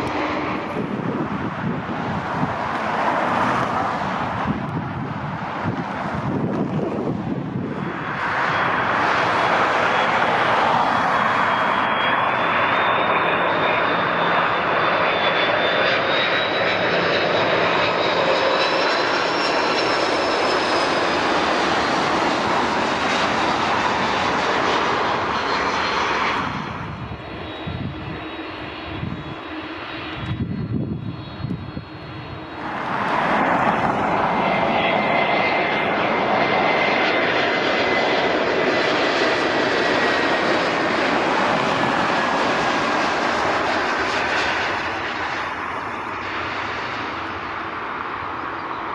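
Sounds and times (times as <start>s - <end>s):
jet airliner engines whining: 0.0s - 48.9s
low jet rumble: 0.0s - 48.9s.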